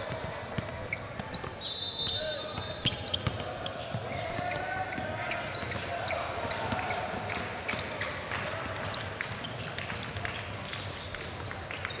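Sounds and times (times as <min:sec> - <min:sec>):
basketballs bouncing on gym floor: 0:00.0 - 0:12.0.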